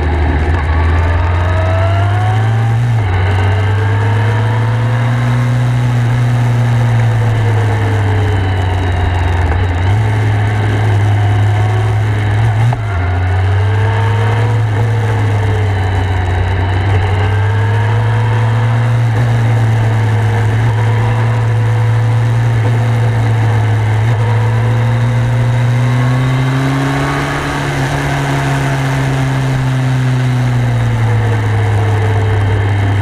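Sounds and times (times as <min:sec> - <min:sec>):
motorcycle engine cruising: 0:00.0 - 0:33.0
wind and road noise: 0:00.0 - 0:33.0.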